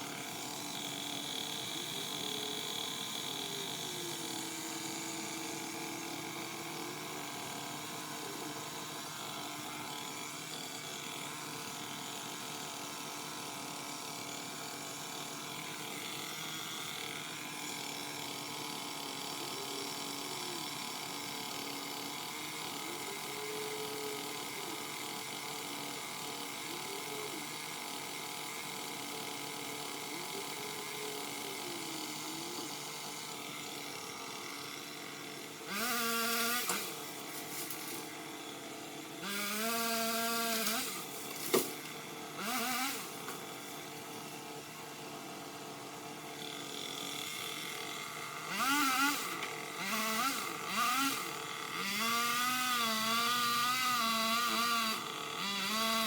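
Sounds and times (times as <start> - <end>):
pole saw cutting branches: 0.0 - 56.0.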